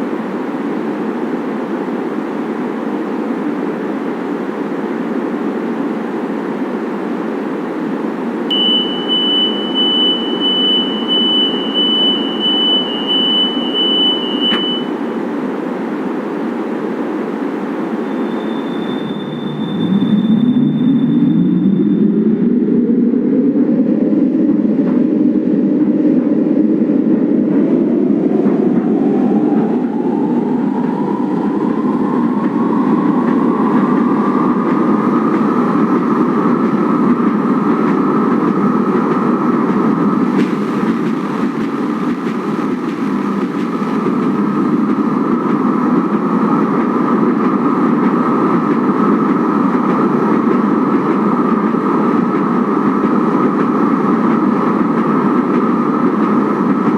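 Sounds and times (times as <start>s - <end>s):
light-rail train running: 0.0s - 56.9s.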